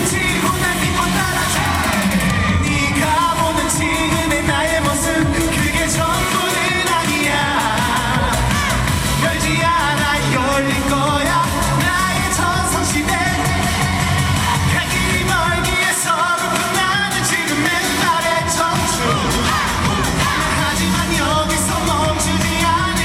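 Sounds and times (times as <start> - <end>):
man singing with vibrato: 0.0 - 23.0
pop accompaniment: 0.0 - 23.0.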